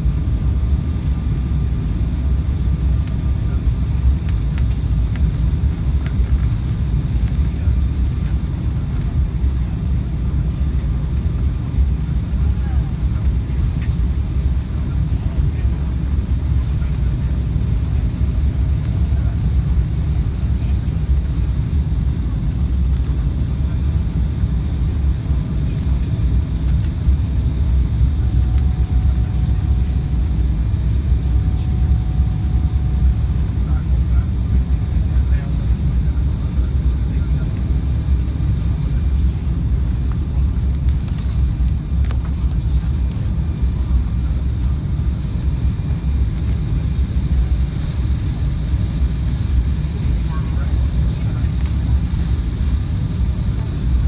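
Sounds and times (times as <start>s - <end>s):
faint steady whine: 0.0s - 54.0s
jet cabin engine rumble: 0.0s - 54.0s.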